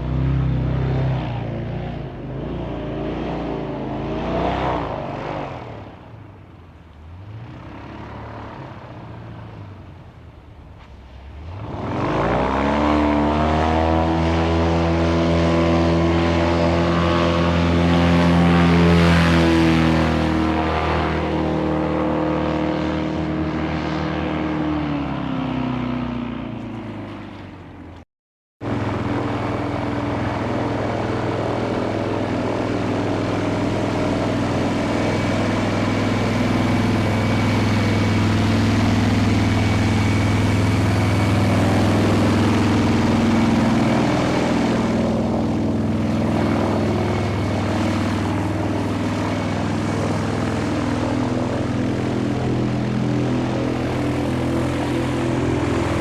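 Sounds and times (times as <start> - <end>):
airboat engine and propeller: 0.0 - 28.0, 28.6 - 56.0.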